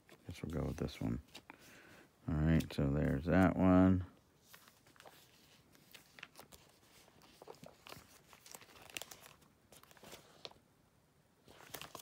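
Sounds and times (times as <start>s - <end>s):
cards and plastic sleeves rustling: 0.0s - 10.7s, 11.4s - 12.0s.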